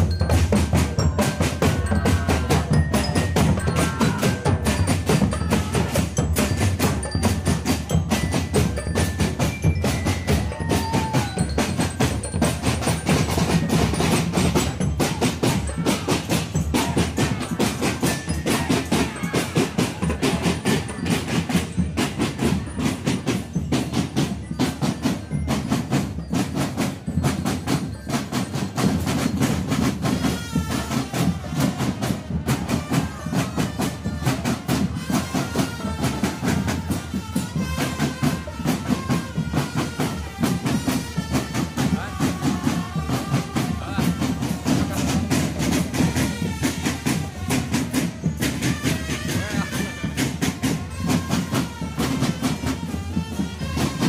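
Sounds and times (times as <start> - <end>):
snare drums: 0.0 - 54.0.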